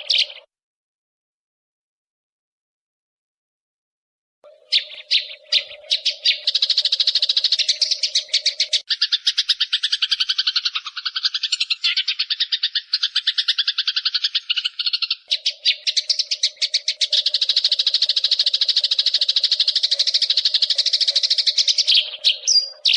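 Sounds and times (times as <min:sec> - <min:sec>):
sparrows chattering harshly: 0:00.0 - 0:00.5, 0:04.4 - 0:22.9.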